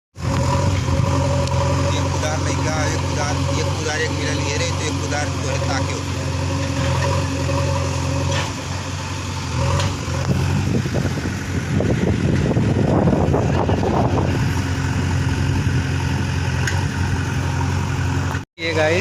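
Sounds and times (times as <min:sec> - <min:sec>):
diesel engine running: 0:00.1 - 0:19.0.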